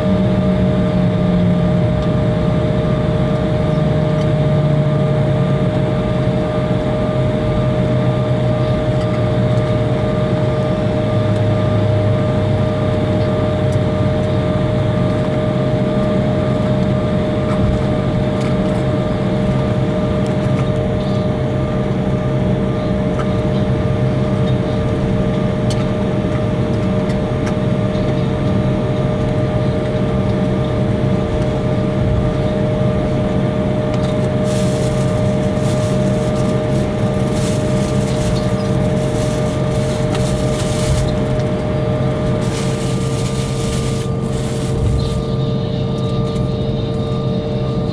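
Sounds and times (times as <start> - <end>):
jet engines idling: 0.0 - 47.9.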